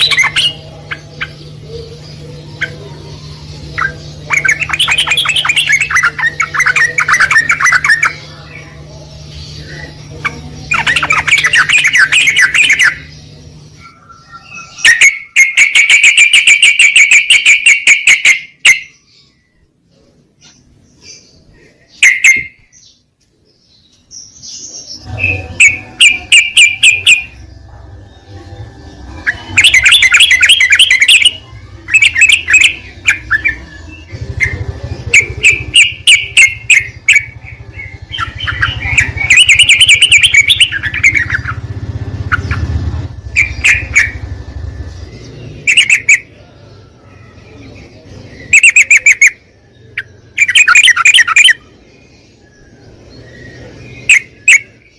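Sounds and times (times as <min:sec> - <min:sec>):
bulbuls chirping: 0:00.0 - 0:54.9.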